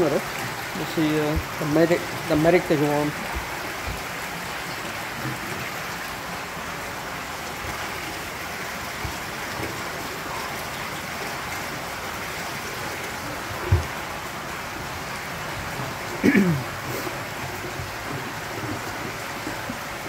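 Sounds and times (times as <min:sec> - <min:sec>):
water rushing and splashing: 0:00.0 - 0:20.0.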